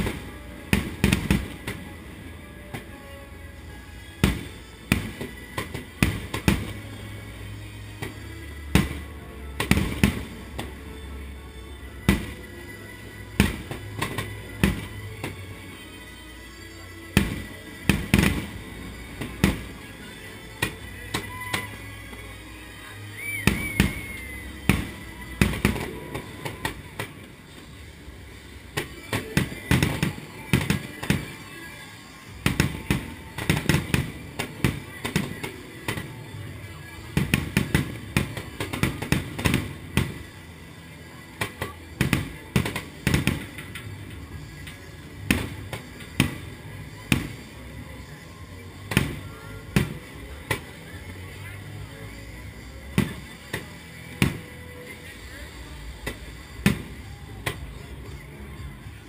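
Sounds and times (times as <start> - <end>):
fireworks bursting: 0.0 - 3.2, 4.0 - 15.8, 17.1 - 22.3, 23.2 - 40.6, 41.4 - 47.7, 52.6 - 58.2.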